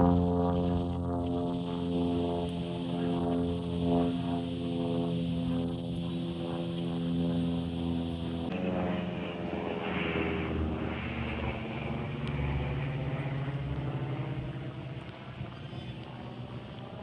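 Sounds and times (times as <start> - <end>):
aircraft passing by: 0.0 - 17.0
airplane engines droning: 0.0 - 17.0.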